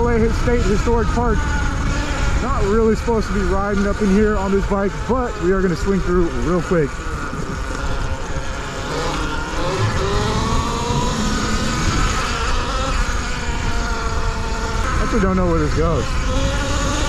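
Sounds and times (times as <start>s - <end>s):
electric motorbike motor whining: 0.0s - 17.0s
steady low rumble: 0.0s - 17.0s.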